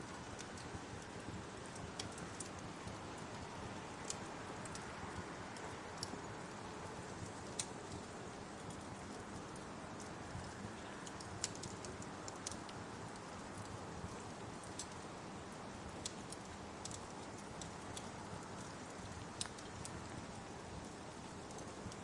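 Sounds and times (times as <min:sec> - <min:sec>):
rain hiss: 0:00.0 - 0:22.0
wood fire crackling and popping: 0:00.1 - 0:22.0.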